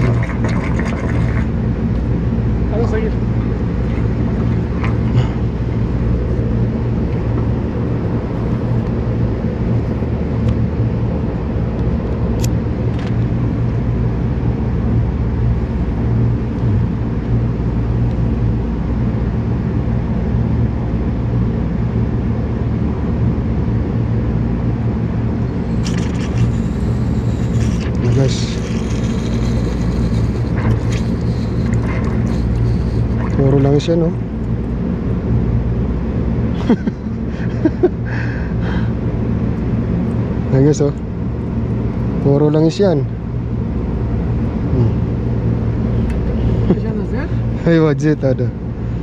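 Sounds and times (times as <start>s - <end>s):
machinery humming: 0.0s - 19.8s, 23.6s - 49.0s.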